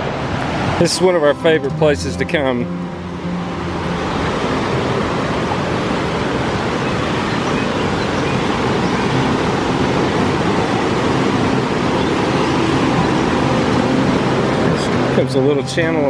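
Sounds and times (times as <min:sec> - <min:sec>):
river rapids rushing over rocks: 0:00.0 - 0:01.7, 0:03.1 - 0:16.0.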